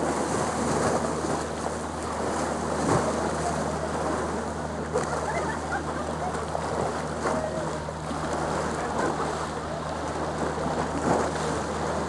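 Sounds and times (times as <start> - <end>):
boat motor hum: 0.0 - 12.0
water lapping: 0.0 - 12.0.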